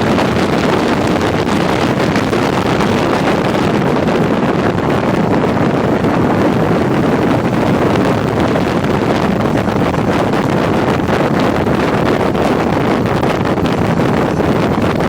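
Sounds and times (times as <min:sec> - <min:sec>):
motorcycle engine: 0:00.0 - 0:15.0
road noise: 0:00.0 - 0:15.0
wind rushing over microphone: 0:00.0 - 0:15.0.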